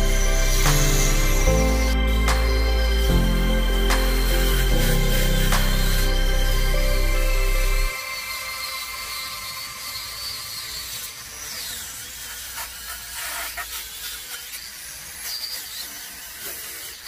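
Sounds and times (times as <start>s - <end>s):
wire wheel grinder on wood: 0.0s - 17.0s.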